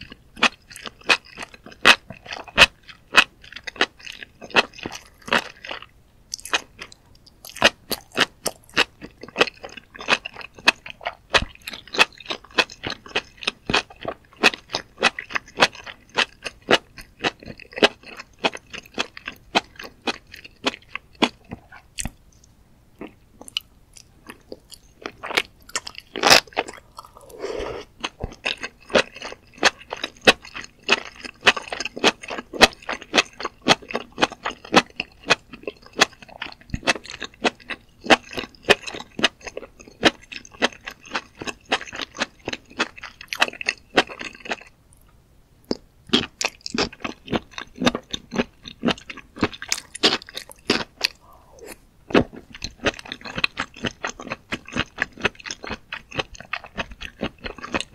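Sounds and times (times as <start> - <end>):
wet crunchy chewing: 0.0 - 45.1, 45.7 - 57.9.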